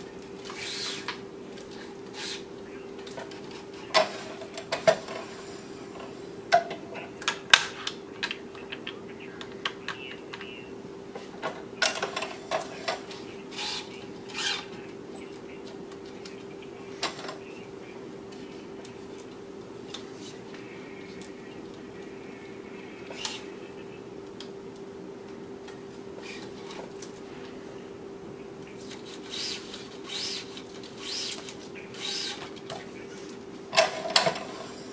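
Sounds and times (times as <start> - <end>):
steady machine hum: 0.0 - 34.9.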